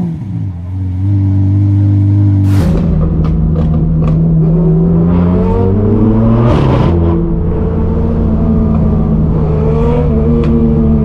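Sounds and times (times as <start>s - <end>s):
loud car exhaust: 0.0s - 11.0s.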